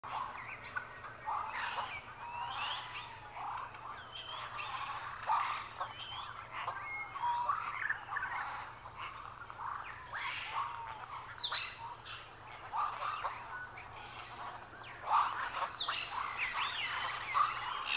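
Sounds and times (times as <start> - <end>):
birds chirping and calling: 0.0 - 17.9.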